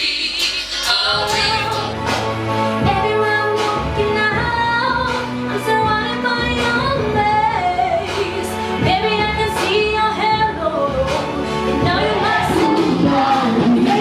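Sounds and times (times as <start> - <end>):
woman singing: 0.0 - 2.0, 2.8 - 14.0
musical accompaniment: 0.0 - 14.0.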